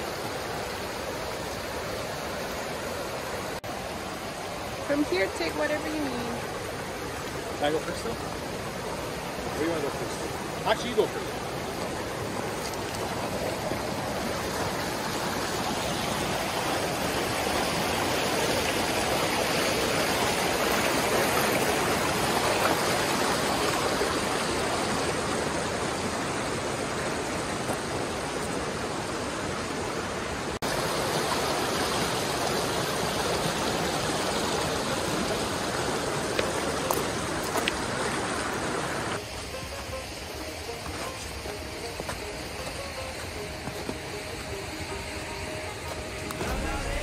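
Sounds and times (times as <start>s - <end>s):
rushing creek water: 0.0s - 47.0s.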